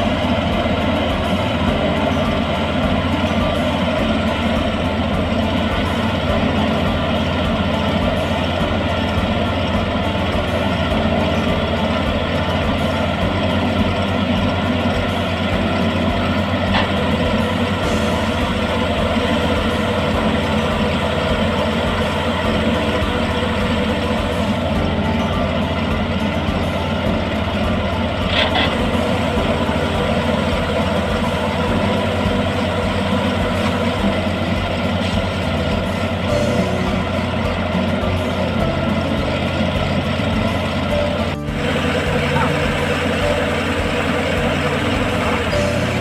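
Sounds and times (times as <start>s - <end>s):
combine harvester engine droning: 0.0s - 46.0s.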